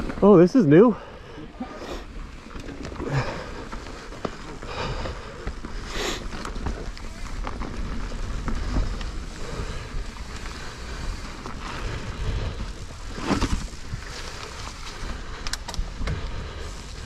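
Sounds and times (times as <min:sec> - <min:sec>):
bike rattling over rough ground: 0:00.0 - 0:17.0
bike tyres rolling on dirt: 0:00.0 - 0:17.0.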